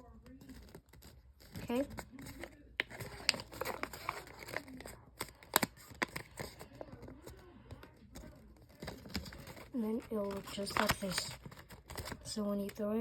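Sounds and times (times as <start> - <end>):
paper folding and crinkling: 0.0 - 12.9.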